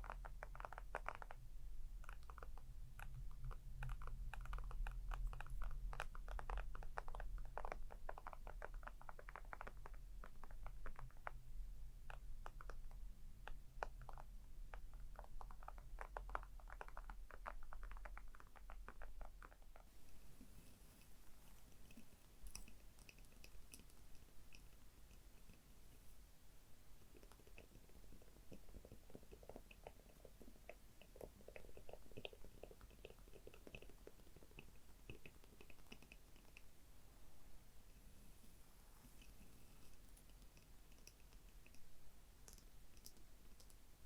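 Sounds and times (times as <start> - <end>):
faint low hum: 0.0 - 44.0.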